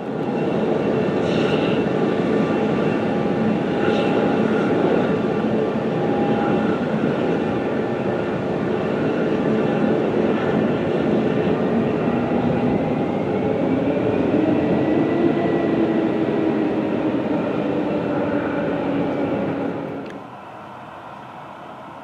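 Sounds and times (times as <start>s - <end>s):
airliner engines running: 0.0s - 22.0s.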